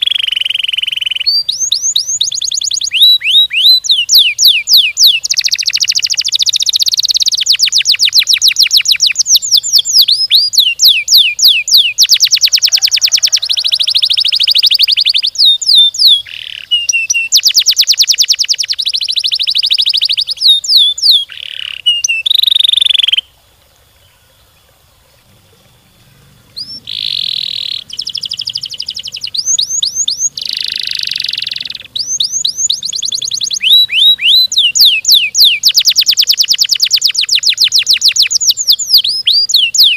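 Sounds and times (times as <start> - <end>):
canary singing trills: 0.0 - 23.3, 24.0 - 39.9.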